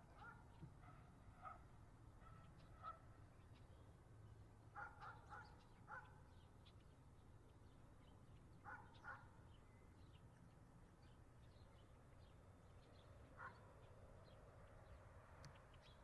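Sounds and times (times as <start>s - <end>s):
small birds chirping: 2.2s - 16.0s.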